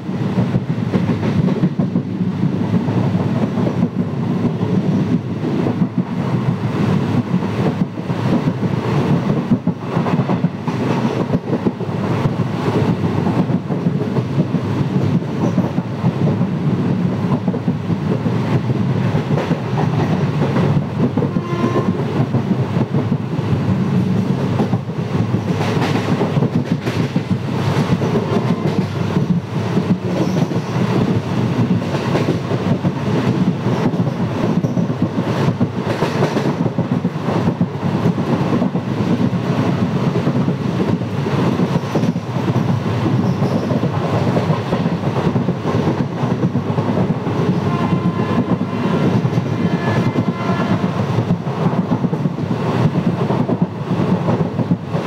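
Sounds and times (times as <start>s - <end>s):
clickety-clack over rail joints: 0.0s - 55.0s
train wheels rumbling on rails: 0.0s - 55.0s.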